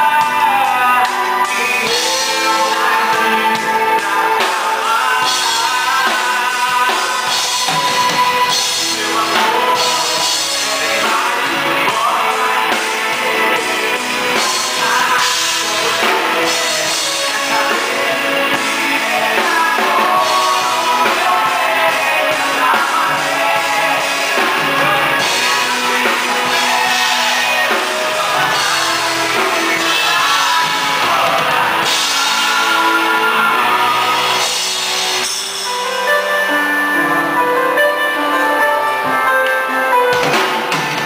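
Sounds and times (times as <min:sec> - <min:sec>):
drum kit: 0:00.0 - 0:41.0
live band playing: 0:00.0 - 0:41.0
person singing: 0:00.0 - 0:41.0.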